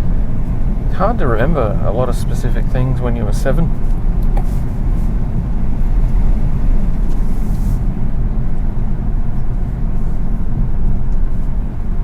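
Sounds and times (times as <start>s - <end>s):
car driving along street: 0.0s - 12.0s.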